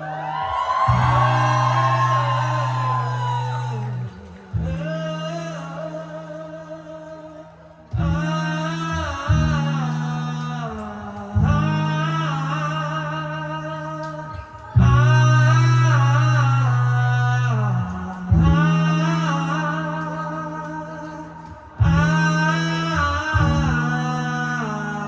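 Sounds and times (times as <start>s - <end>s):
person singing: 0.0s - 25.0s.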